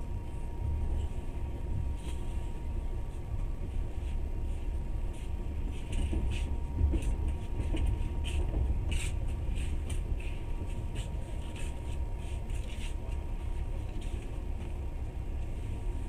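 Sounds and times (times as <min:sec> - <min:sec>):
train running gear drone: 0:00.0 - 0:16.0.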